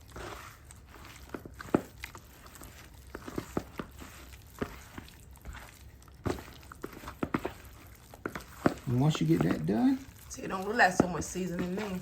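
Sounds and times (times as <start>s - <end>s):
raw chicken squishing in a bowl: 0.0s - 12.0s.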